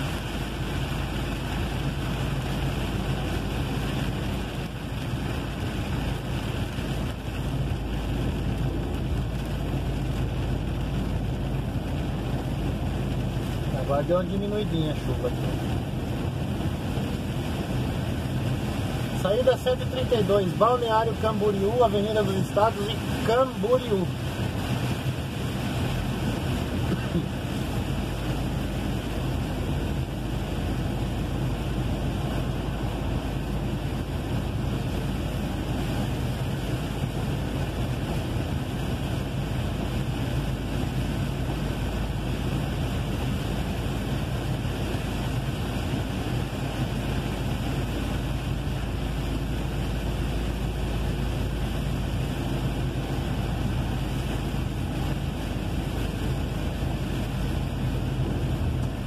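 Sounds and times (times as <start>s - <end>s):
truck engine hum: 0.0s - 59.0s
tyres hissing on wet road: 0.0s - 59.0s.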